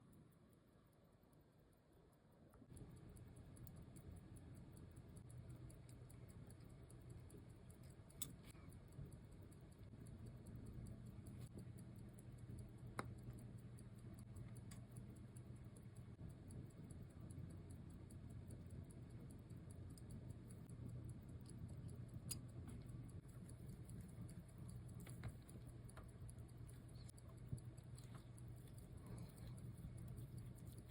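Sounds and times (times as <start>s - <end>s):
low steady hum: 0.0s - 30.9s
faint sharp clicks: 1.7s - 30.9s.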